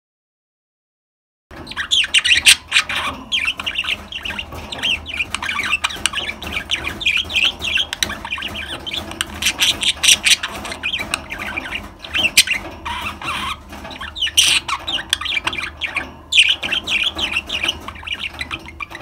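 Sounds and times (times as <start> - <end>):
budgerigars chirping and squawking: 1.5 - 19.0.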